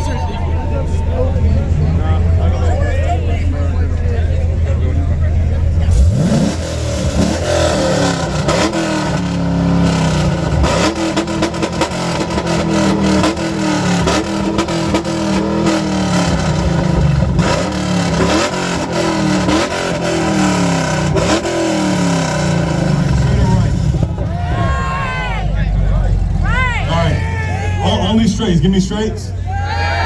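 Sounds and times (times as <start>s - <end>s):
car engine revving: 0.0s - 29.2s.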